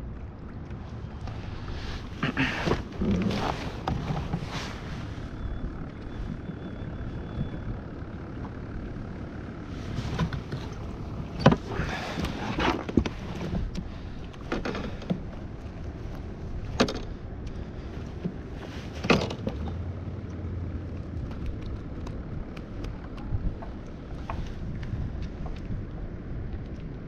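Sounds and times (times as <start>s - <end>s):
low rush of wind and water: 0.0s - 27.0s.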